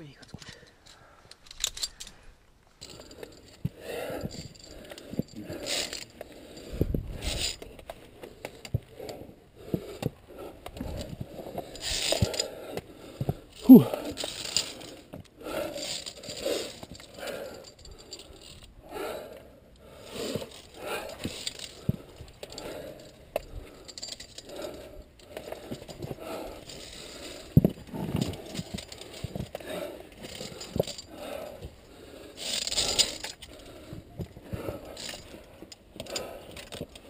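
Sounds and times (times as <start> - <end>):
carabiners clicking on steel cable: 0.1 - 37.0
heavy breathing: 0.2 - 37.0.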